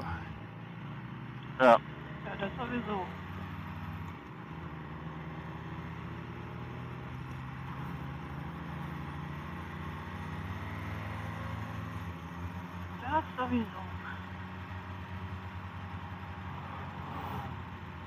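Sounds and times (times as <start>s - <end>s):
motorcycle engine running: 0.0s - 18.0s
road noise rush: 0.0s - 18.0s.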